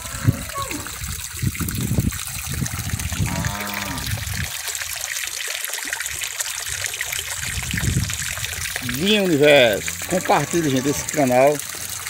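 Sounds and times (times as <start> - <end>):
water pouring into trough: 0.0 - 12.0
water splashing: 0.0 - 12.0.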